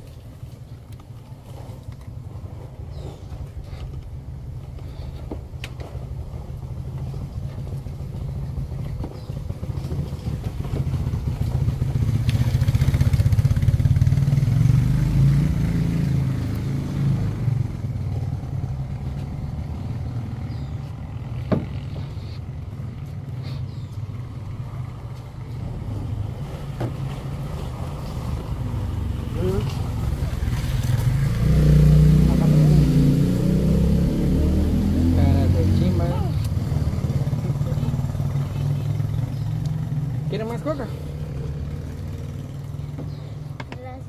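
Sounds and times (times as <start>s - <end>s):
vehicle engine humming: 0.0s - 44.0s.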